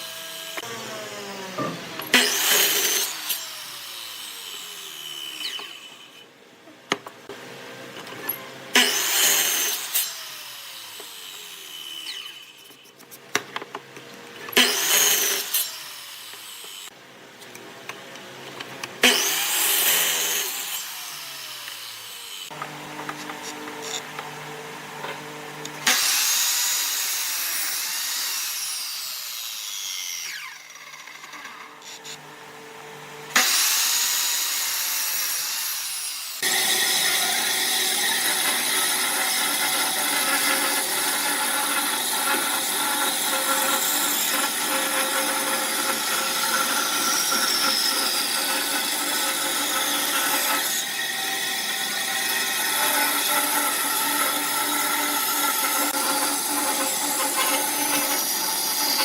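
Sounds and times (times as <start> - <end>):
power tools cutting wood: 0.0 - 6.3, 8.1 - 13.2, 14.1 - 17.0, 18.8 - 59.0.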